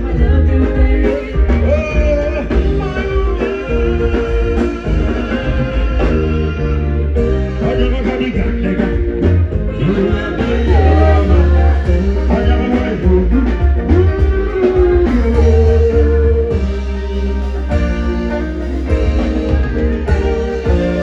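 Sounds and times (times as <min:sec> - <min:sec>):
guitar melody with bending notes: 0:00.0 - 0:21.0
heavy bass line: 0:00.0 - 0:21.0.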